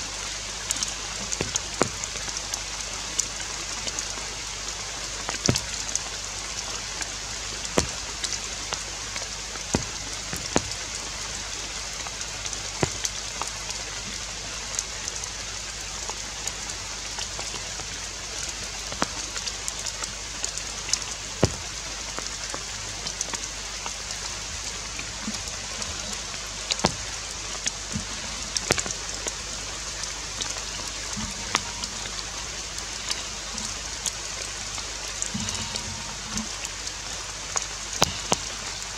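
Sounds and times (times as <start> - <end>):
rain on leaves: 0.0 - 38.9
sharp drips and taps: 0.0 - 38.9.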